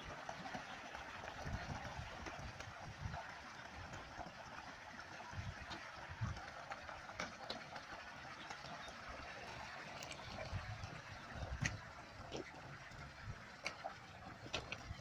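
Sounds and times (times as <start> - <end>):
water pouring from a pipe: 0.0 - 15.0.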